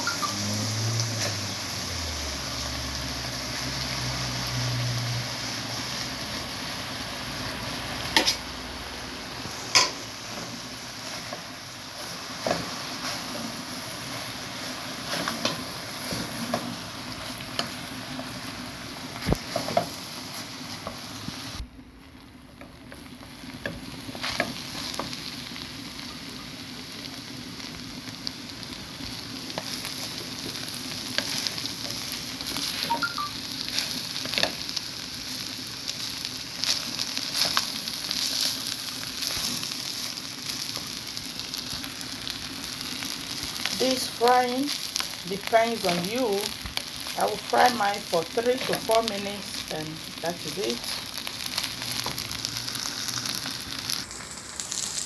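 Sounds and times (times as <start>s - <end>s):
rice sizzling in a pan: 0.0s - 55.0s.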